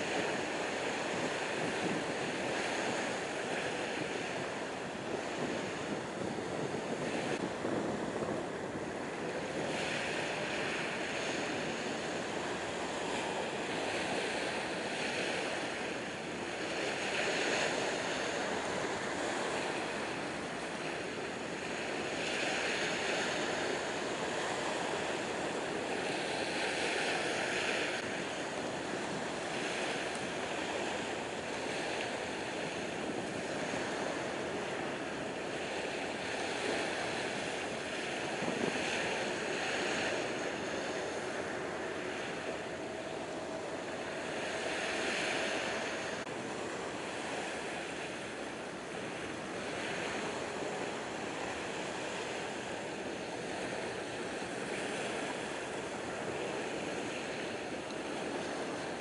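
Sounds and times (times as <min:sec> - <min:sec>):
small waves washing ashore: 0:00.0 - 0:59.0.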